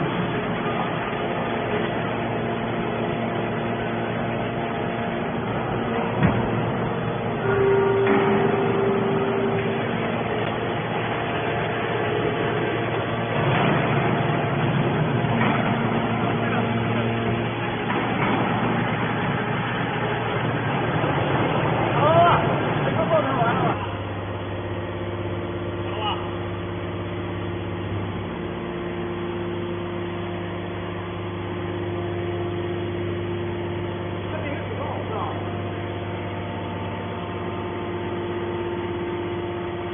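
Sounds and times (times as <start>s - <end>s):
hydraulic baler running: 0.0s - 39.9s.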